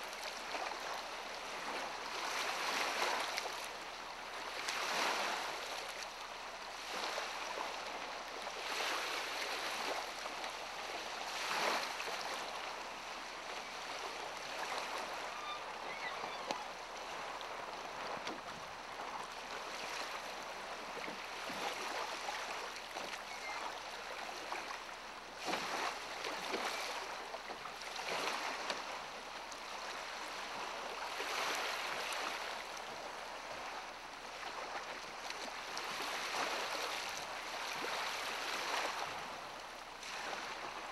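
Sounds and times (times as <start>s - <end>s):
choppy water: 0.0s - 40.9s.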